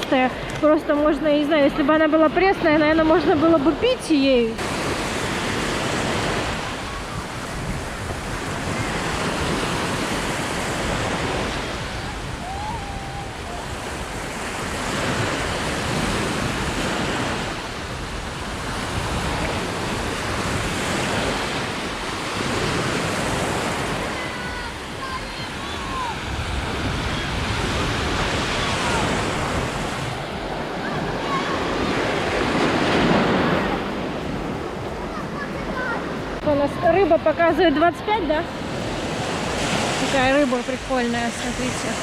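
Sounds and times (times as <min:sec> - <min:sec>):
sea waves washing ashore: 0:00.0 - 0:42.0.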